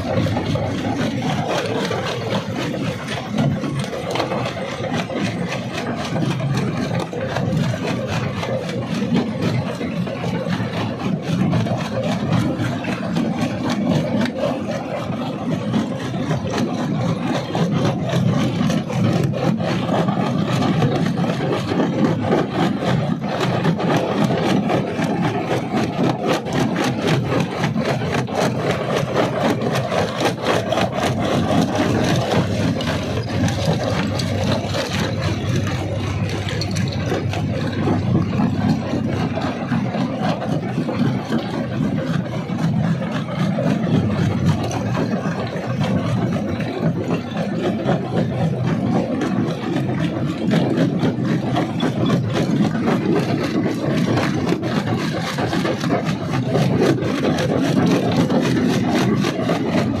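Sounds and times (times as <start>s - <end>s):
machine drone: 0.0s - 60.0s.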